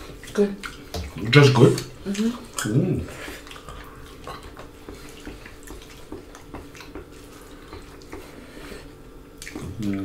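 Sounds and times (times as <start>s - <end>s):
faint steady hum: 0.0s - 10.0s
wet chewing and mouth smacks: 0.0s - 10.0s.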